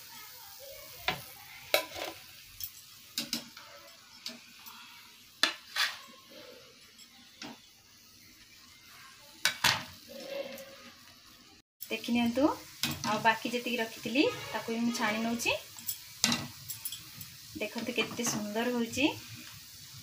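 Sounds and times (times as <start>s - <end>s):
hot oil sizzling in frying pan: 0.0s - 20.0s.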